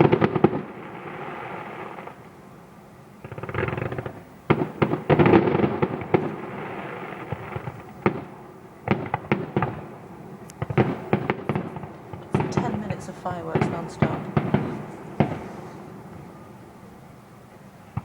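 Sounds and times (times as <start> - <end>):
fireworks bangs: 0.0 - 2.4, 3.2 - 18.0
fireworks crackling: 0.0 - 18.0.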